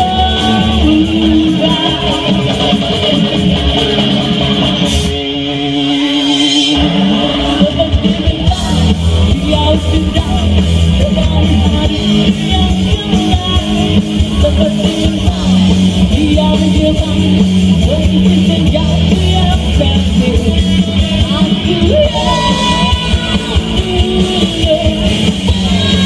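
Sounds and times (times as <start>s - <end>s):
person singing: 0.0s - 4.0s, 5.4s - 26.0s
bass guitar: 0.0s - 26.0s
drum kit: 0.0s - 26.0s
electric guitars: 0.0s - 26.0s.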